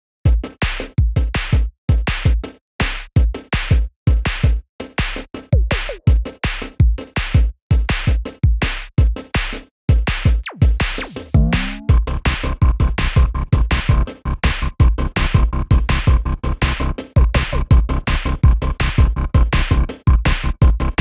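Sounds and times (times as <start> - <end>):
electronic music with kick drum: 0.3 - 21.0.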